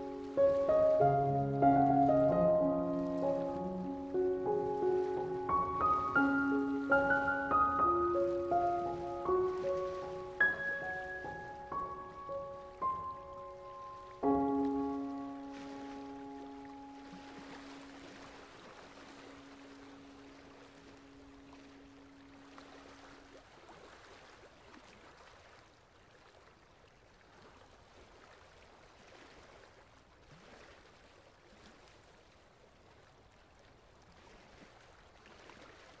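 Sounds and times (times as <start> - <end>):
faint running water: 0.0 - 36.0.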